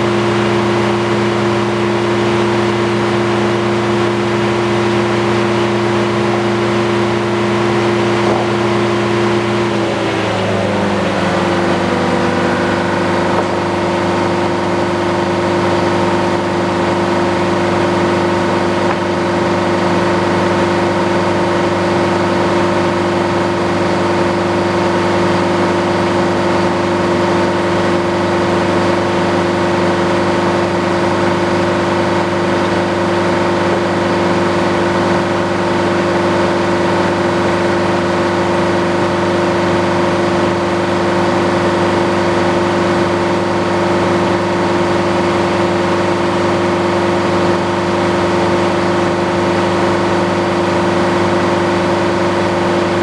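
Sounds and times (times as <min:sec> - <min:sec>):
sawmill machine hum: 0:00.0 - 0:53.0.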